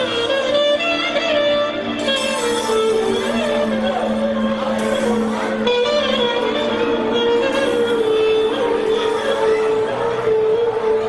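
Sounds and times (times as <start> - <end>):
band accompaniment: 0.0 - 11.0
clarinet melody: 0.0 - 11.0.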